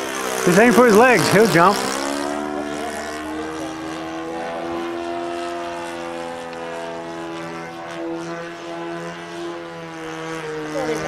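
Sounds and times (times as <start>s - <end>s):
model airplane motor whining: 0.0s - 11.0s.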